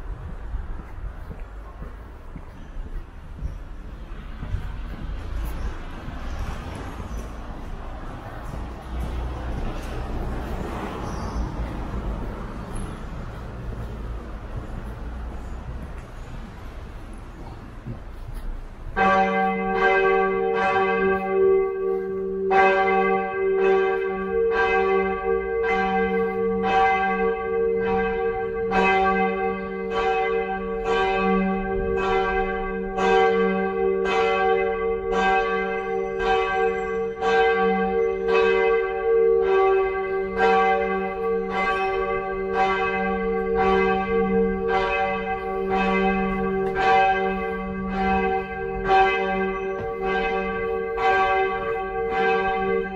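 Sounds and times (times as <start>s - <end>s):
church bells ringing: 0.8s - 52.9s.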